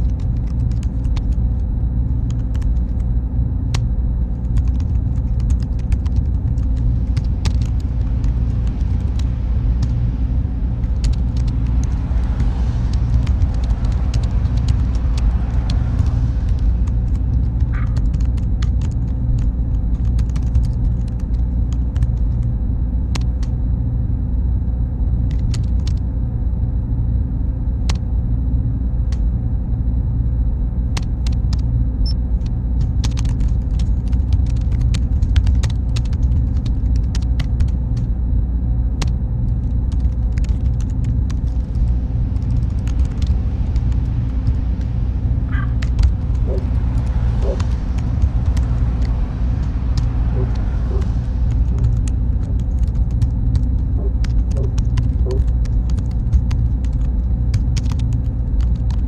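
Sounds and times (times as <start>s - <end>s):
machine and fan rumble: 0.0s - 59.0s.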